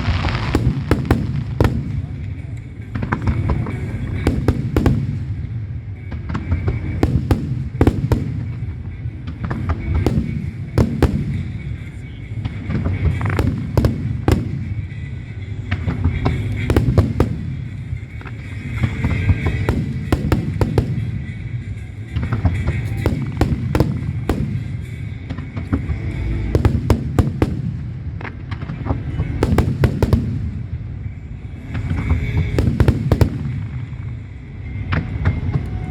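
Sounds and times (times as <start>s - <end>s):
fireworks bursting in sharp bangs: 0.0s - 34.4s
continuous low rumble: 0.0s - 35.9s.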